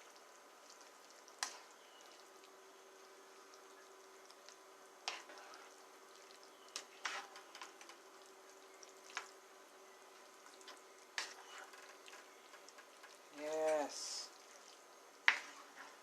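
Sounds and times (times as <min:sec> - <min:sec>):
faint steady hum: 0:00.0 - 0:16.0
pot of food simmering: 0:00.0 - 0:16.0.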